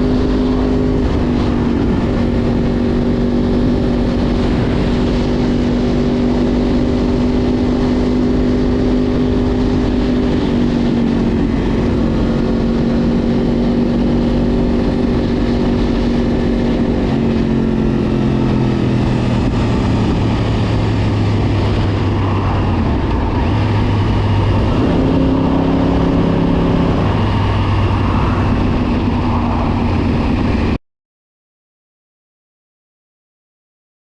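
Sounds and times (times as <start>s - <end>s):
motorcycle engine running: 0.0s - 30.8s
rushing wind noise: 0.0s - 30.8s.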